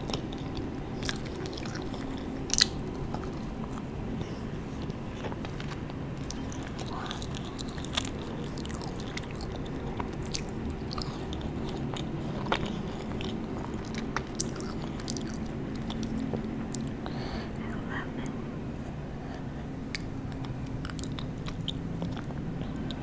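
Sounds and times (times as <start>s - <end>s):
chewing crunchy candy: 0.0s - 17.2s, 19.8s - 23.0s.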